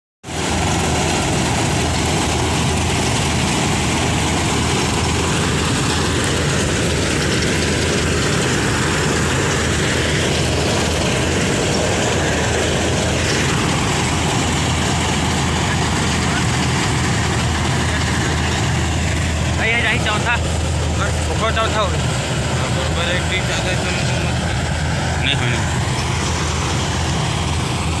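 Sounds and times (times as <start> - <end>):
combine harvester running: 0.2 - 28.0.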